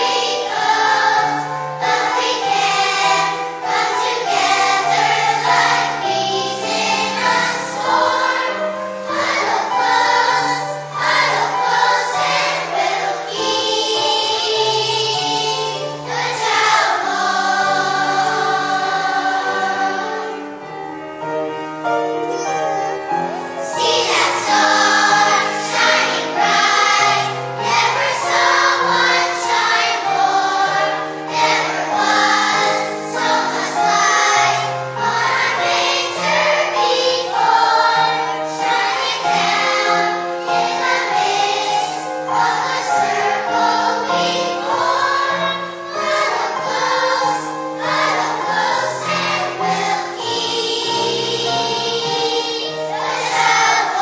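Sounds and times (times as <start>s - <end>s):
children's choir singing: 0.0s - 54.0s
musical accompaniment: 0.0s - 54.0s.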